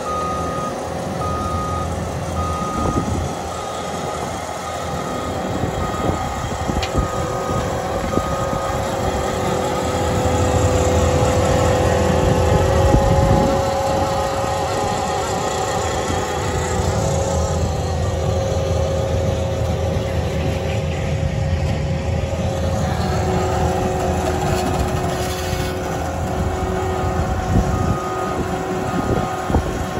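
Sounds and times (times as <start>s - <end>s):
reversing alarm beeping: 0.0s - 19.3s, 24.4s - 29.9s
hydraulic attachment whine: 0.0s - 29.9s
track loader engine running: 0.0s - 29.9s.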